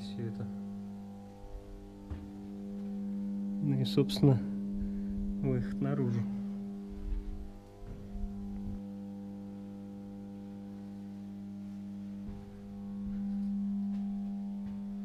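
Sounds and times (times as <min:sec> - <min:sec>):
deep electrical hum: 0:00.0 - 0:15.0.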